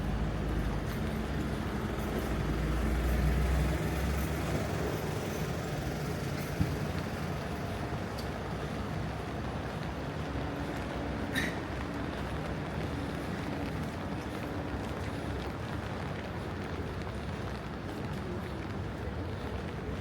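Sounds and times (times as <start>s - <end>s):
heavy vehicle engine rumble: 0.0s - 20.0s
traffic hiss on wet road: 0.0s - 20.0s.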